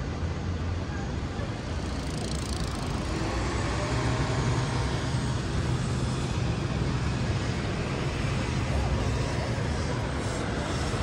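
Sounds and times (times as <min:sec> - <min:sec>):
traffic engine rumble: 0:00.0 - 0:11.0
vehicles passing: 0:00.0 - 0:11.0.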